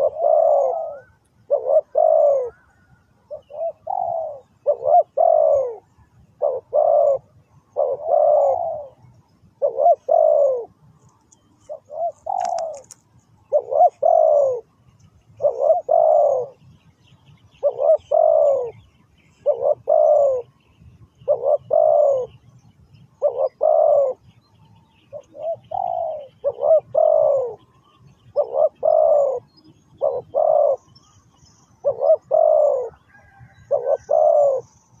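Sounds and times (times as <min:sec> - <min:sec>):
dove cooing: 0:00.0 - 0:16.7, 0:17.4 - 0:22.5, 0:23.1 - 0:35.0.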